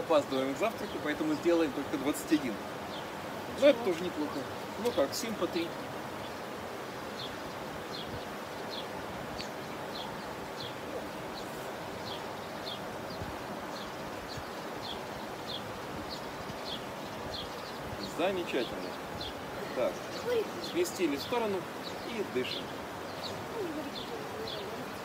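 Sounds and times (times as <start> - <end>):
bird chirping: 0.0 - 6.5, 7.1 - 25.0
background hiss: 0.0 - 25.0.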